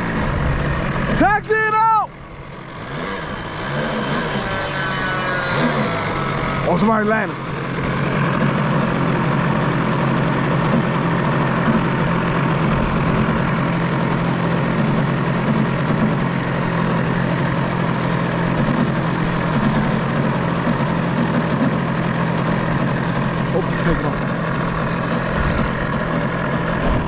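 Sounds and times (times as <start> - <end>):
model airplane engine idling: 0.0 - 27.0.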